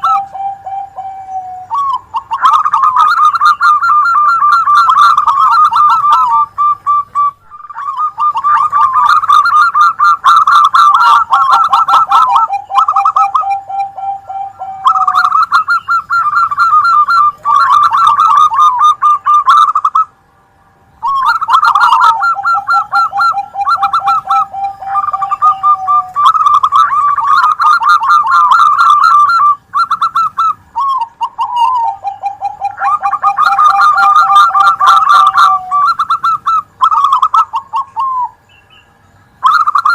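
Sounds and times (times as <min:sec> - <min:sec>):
doves cooing: 0:00.0 - 0:20.2, 0:21.0 - 0:39.9.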